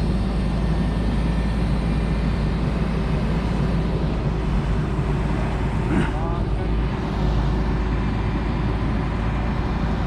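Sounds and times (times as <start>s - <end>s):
truck engine low rumble: 0.0s - 10.0s.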